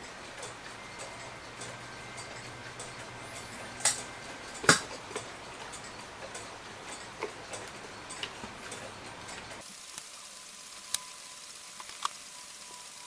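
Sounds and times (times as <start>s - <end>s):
small clock parts clicking: 0.0s - 13.0s.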